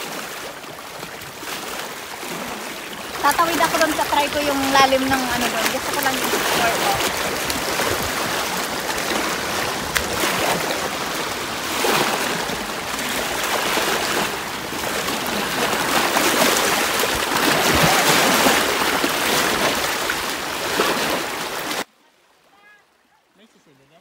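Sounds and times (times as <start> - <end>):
small waves breaking on rocks: 0.0 - 21.9
water splashing around wading person: 0.0 - 21.9.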